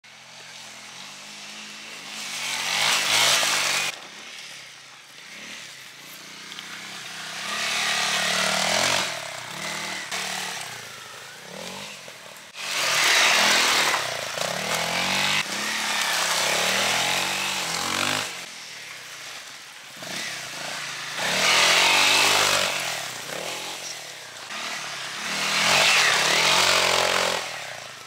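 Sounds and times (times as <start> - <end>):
dirt bike engine revving: 0.1 - 28.0.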